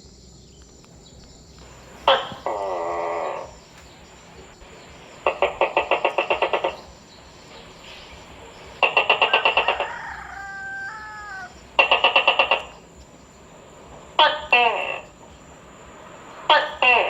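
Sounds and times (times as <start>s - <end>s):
gecko chattering call: 0.5s - 17.0s.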